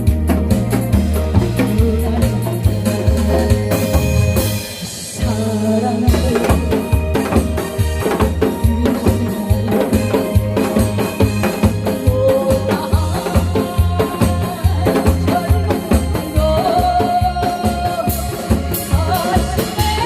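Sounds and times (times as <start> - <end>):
upbeat music with drums and bass: 0.0 - 20.0.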